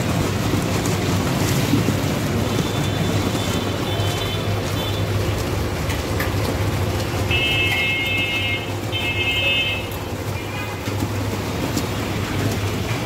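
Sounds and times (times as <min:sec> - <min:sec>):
busy street noise: 0:00.0 - 0:13.0.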